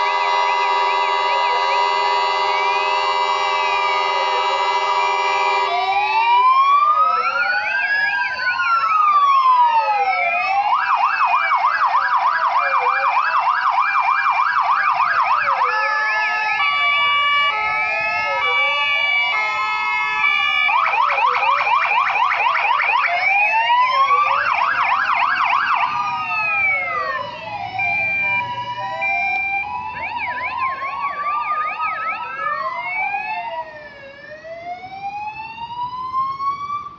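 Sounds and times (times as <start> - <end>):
fire engine sirens wailing: 0.0 - 36.9.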